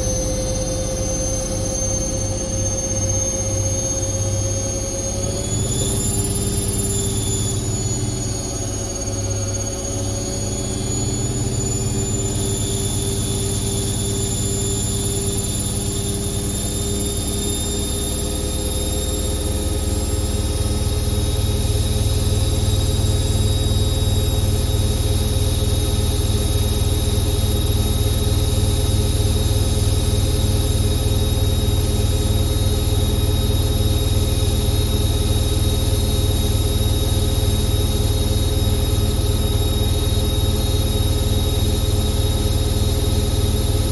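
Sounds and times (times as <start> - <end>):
washing machine spinning: 0.0 - 43.9.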